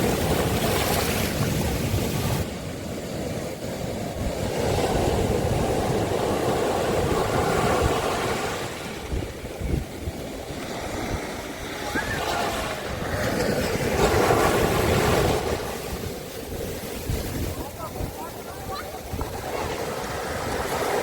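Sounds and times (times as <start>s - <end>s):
sea waves on a beach: 0.0s - 21.0s
wind on microphone: 0.0s - 21.0s.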